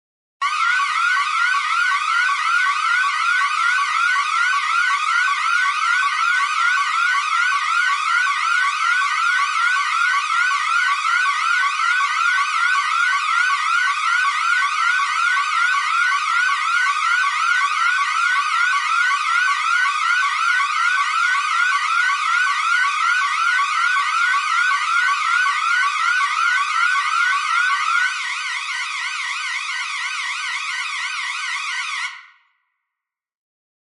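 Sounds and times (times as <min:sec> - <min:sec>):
security alarm siren sweeps: 0:00.4 - 0:32.4.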